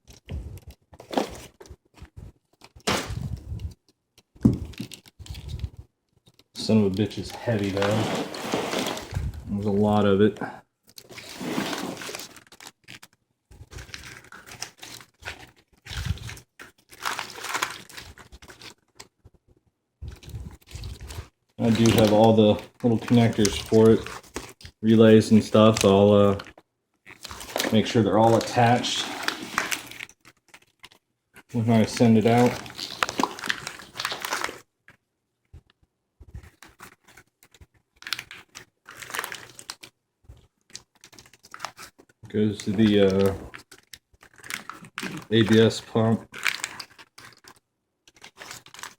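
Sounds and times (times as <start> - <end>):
wiring harness rustling and crinkling: 0.0 - 48.9.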